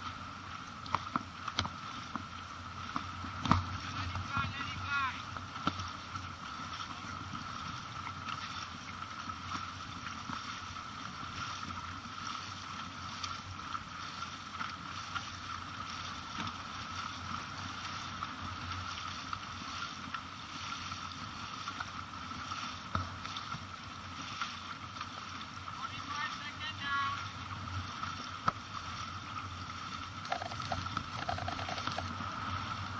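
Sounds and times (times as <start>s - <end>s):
paddles splashing: 0.0s - 32.9s
water rushing: 0.0s - 32.9s.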